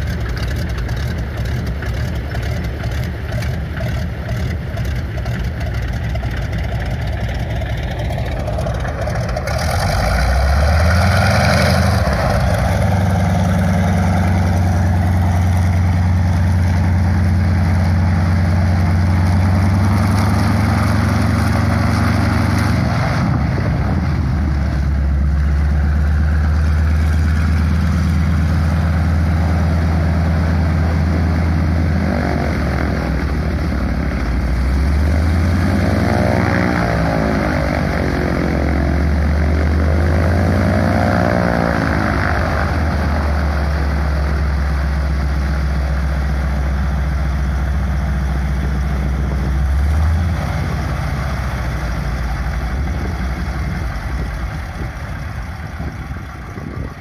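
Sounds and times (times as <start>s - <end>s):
radial aircraft engine running: 0.0s - 57.0s.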